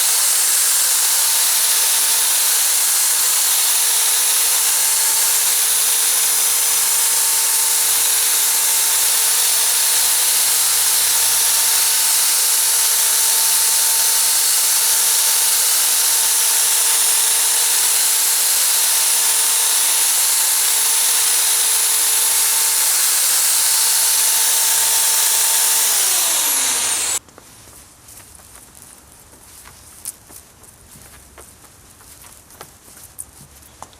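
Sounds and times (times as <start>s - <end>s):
electric drill whine: 0.0s - 27.2s.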